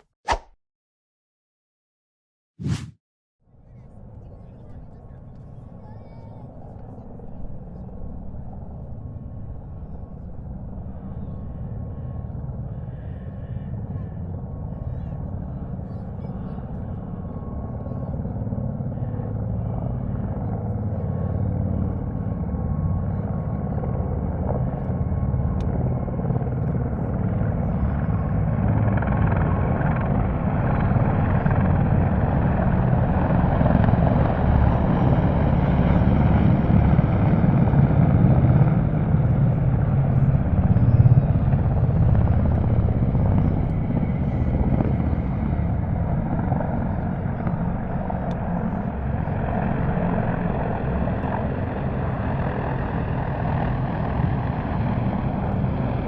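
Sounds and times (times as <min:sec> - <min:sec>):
helicopters flying overhead: 0:03.5 - 0:56.0.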